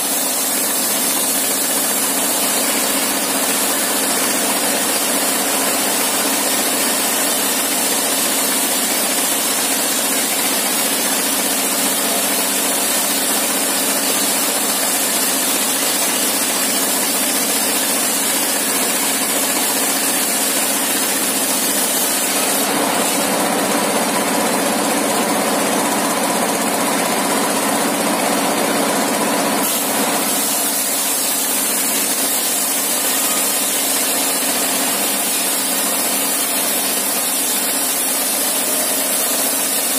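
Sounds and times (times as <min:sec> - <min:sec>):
saw blade cutting plank: 0:00.0 - 0:23.5, 0:29.6 - 0:39.9
circular saw running: 0:00.0 - 0:39.9.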